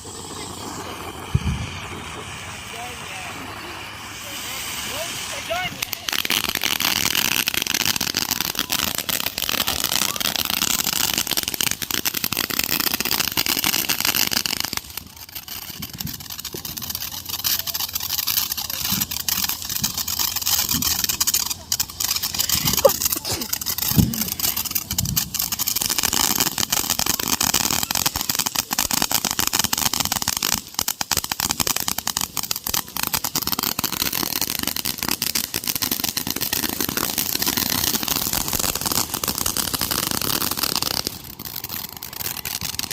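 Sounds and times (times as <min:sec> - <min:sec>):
firework hissing and crackling: 0:00.0 - 0:42.9.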